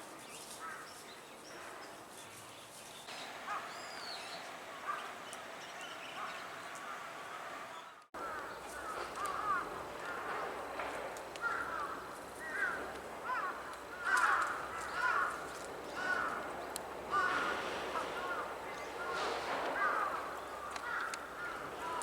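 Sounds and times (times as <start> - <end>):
birds chirping and chattering: 0.2 - 22.0.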